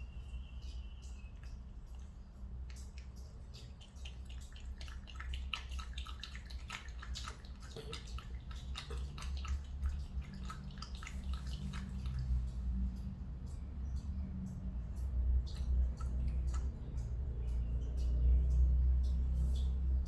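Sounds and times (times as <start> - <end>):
cat lapping water: 0.9 - 19.8.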